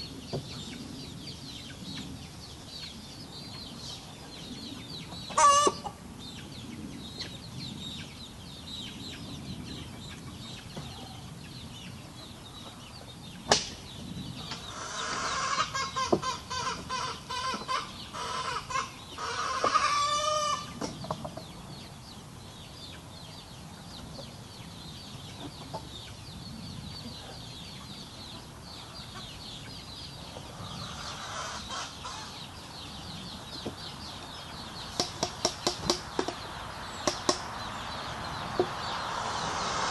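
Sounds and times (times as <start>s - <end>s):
chickens clucking and cackling: 0.0s - 39.9s.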